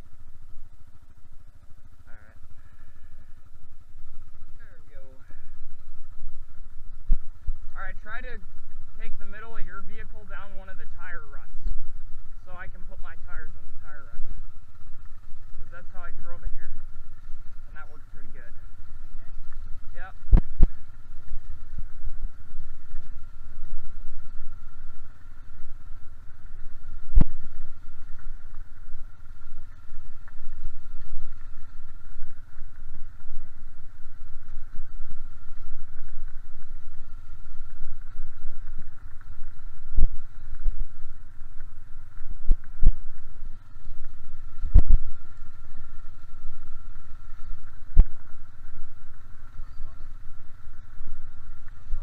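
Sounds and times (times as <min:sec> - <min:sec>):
atv engine rumbling: 0:00.0 - 0:52.0.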